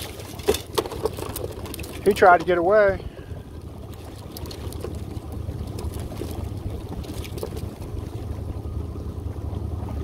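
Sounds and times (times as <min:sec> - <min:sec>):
boat motor idling: 0:00.0 - 0:10.0.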